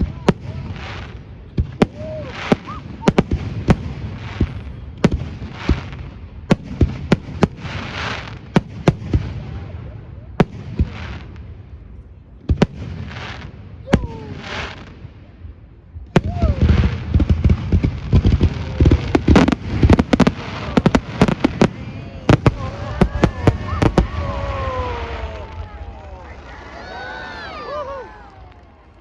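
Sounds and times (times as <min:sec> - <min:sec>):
fireworks bangs: 0:00.0 - 0:29.0
fireworks crackling and hissing: 0:00.0 - 0:29.0.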